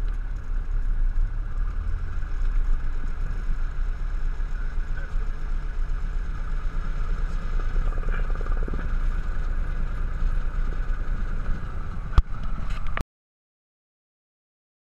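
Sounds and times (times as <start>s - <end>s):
piston aircraft engine droning: 0.0s - 13.0s.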